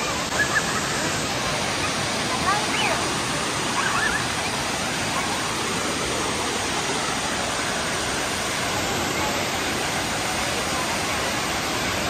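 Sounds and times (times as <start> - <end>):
faint voices: 0.0 - 12.0
waterfall rushing: 0.0 - 12.0.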